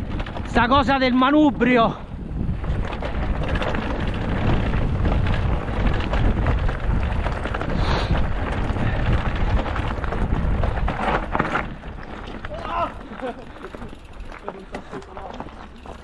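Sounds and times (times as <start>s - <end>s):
bike rumble on rough trail: 0.0s - 16.0s
wind buffeting microphone: 0.0s - 16.0s.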